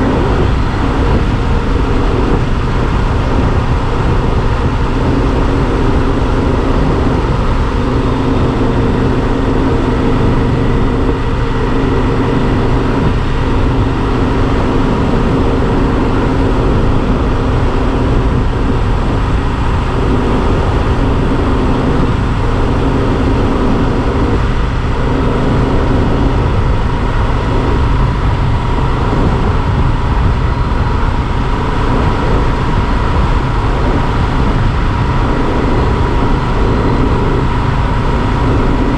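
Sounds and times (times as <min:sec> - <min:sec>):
motorcycle engine cruising: 0:00.0 - 0:38.9
steady high whine: 0:00.0 - 0:38.9
wind rumble: 0:00.0 - 0:38.9.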